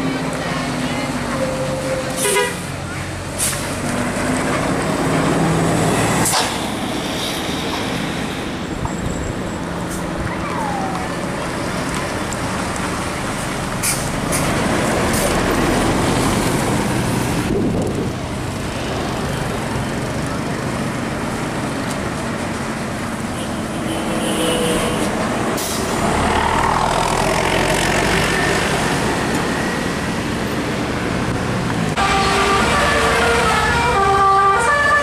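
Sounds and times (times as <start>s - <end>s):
diesel buses passing: 0.0s - 35.0s
tyre and road noise: 0.0s - 35.0s.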